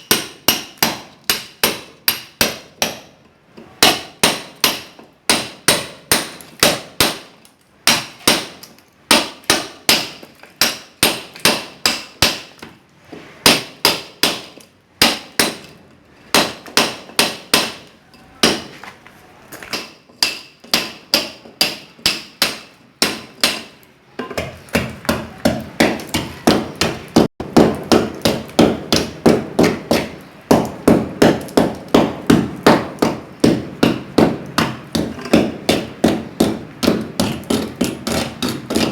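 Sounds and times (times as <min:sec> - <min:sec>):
hammer striking chisel into wall: 0:00.0 - 0:03.2, 0:03.8 - 0:12.8, 0:13.4 - 0:18.7, 0:19.7 - 0:38.9.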